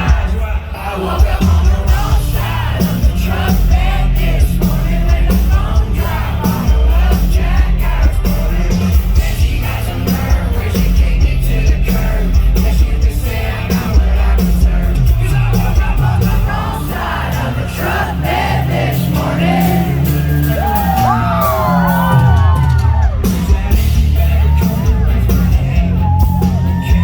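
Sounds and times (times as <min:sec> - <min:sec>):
crowd shouting and singing along: 0:00.0 - 0:27.0
live country-rock band playing: 0:01.2 - 0:27.0.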